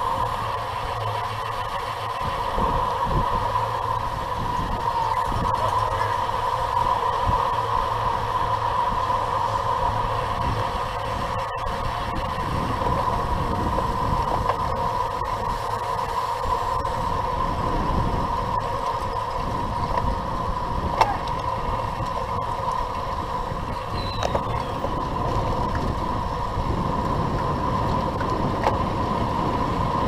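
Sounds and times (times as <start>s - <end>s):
road rumble: 0.0s - 30.0s
steady hum: 0.0s - 30.0s
wind rush on microphone: 0.0s - 30.0s.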